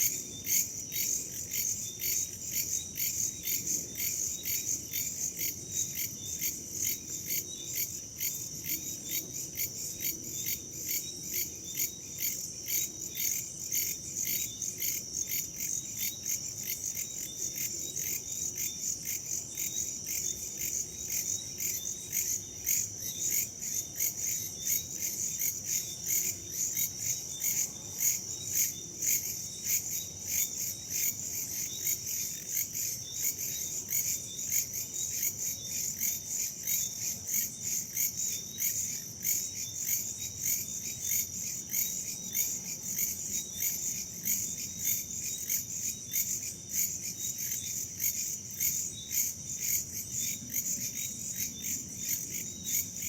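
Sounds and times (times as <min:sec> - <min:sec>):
crickets and insects chirping: 0:00.0 - 0:53.0.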